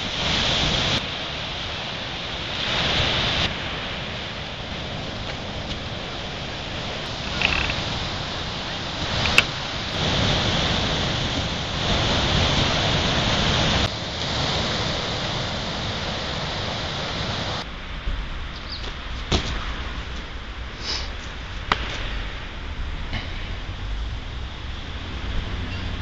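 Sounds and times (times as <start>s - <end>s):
surf on beach: 0.0s - 26.0s
wind on microphone: 0.0s - 26.0s.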